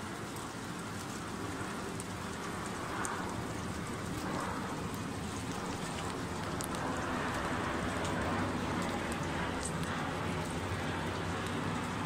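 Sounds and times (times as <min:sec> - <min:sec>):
rain falling: 0:00.0 - 0:12.0
raindrop ticks: 0:00.0 - 0:12.0
jet airliner passing overhead: 0:00.1 - 0:12.0.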